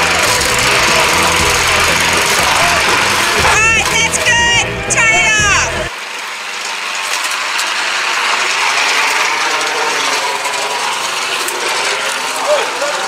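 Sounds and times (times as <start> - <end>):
string trimmer whirring: 0.0 - 13.0.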